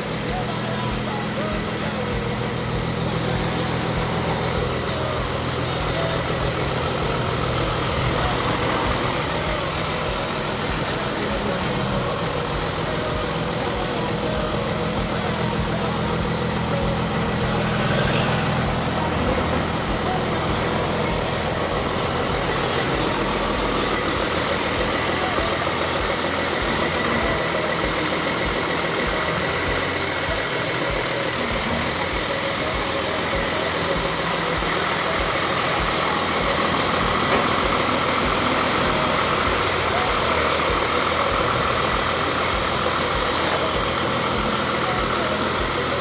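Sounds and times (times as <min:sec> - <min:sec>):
car engine hum: 0:00.0 - 0:46.0
constant noisy rush: 0:00.0 - 0:46.0.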